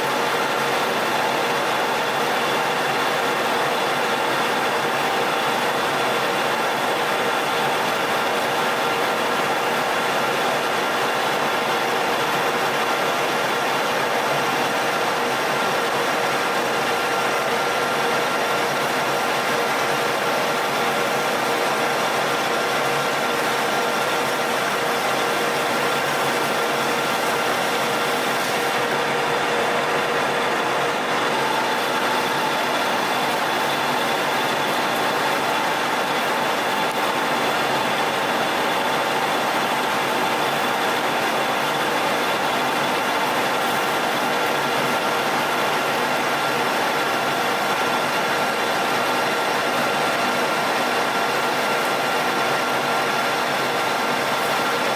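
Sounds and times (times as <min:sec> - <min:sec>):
metal lathe whirring: 0:00.0 - 0:54.9.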